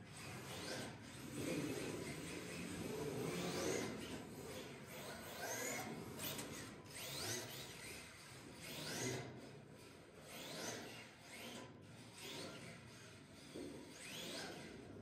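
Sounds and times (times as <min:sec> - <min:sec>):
rc car motors whining: 0:00.0 - 0:15.0.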